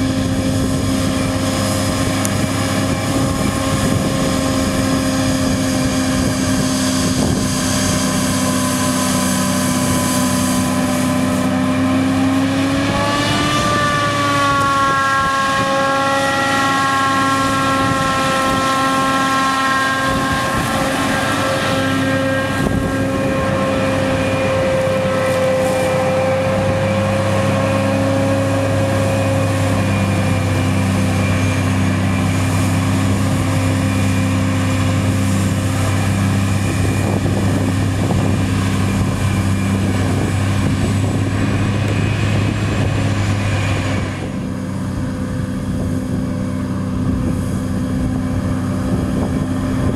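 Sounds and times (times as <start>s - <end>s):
forage harvester running: 0.0s - 49.9s
tractor engines: 0.0s - 49.9s.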